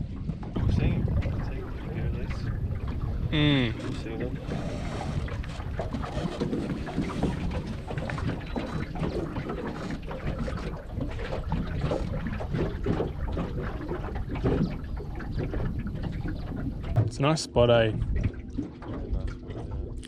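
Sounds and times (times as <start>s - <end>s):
water lapping against hull: 0.0s - 20.0s
wind buffeting microphone: 0.0s - 20.0s.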